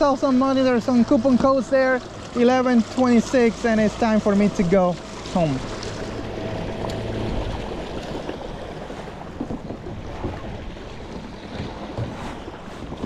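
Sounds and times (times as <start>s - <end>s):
water noise: 0.0s - 13.0s
wind: 0.0s - 13.0s.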